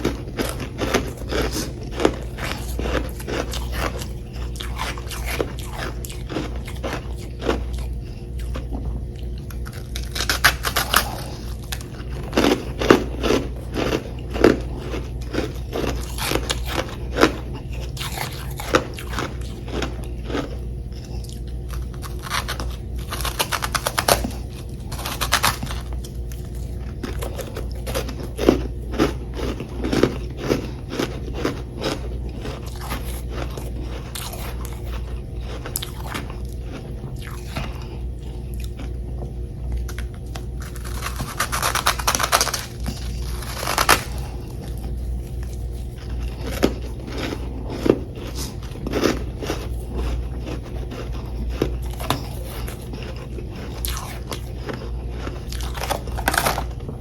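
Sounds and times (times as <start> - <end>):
crunching and chewing frost: 0.0 - 57.0.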